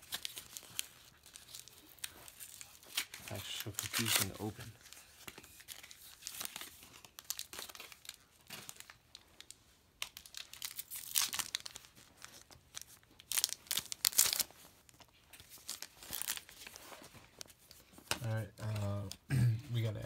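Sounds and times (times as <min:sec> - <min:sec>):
foil wrapper crinkling and tearing: 0:00.0 - 0:18.1.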